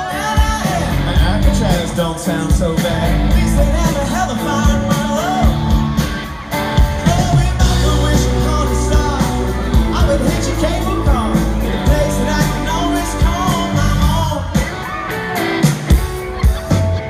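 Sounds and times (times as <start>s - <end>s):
man singing: 0.0s - 6.0s, 6.8s - 15.4s
live pop-rock band: 0.0s - 17.0s.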